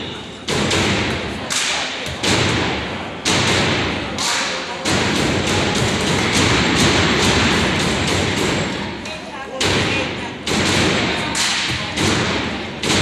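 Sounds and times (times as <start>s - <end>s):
loud crowd noise: 0.0s - 13.0s.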